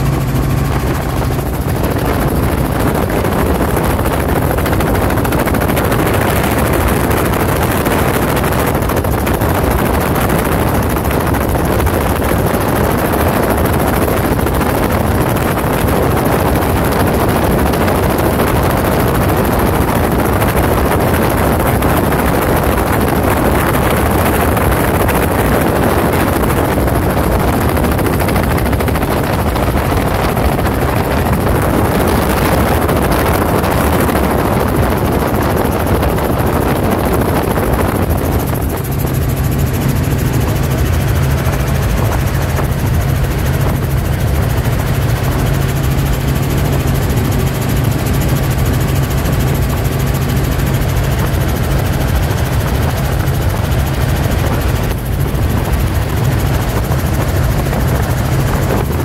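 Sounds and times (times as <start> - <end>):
helicopter engine and rotor noise: 0.0 - 59.0.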